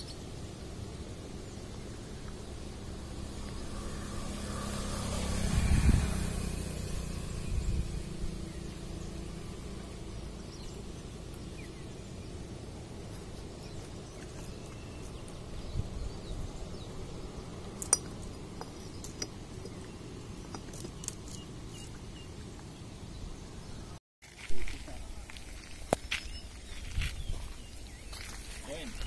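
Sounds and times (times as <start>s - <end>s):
wind rumble on microphone: 0.6s - 9.2s, 10.2s - 24.0s, 26.2s - 29.0s.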